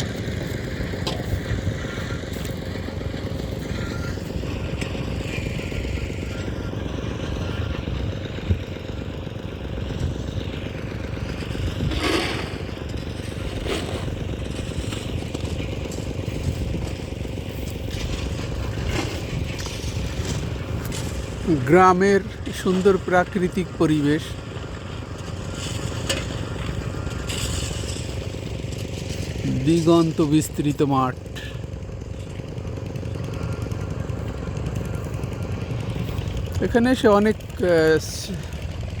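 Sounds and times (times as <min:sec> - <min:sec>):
road noise: 0:00.0 - 0:39.0
vehicle engine running: 0:00.0 - 0:39.0.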